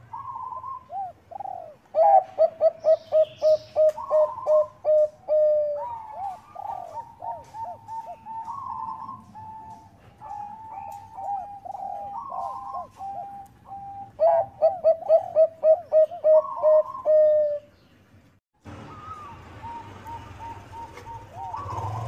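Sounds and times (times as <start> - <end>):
dove cooing: 0.0 - 17.7, 18.8 - 22.0.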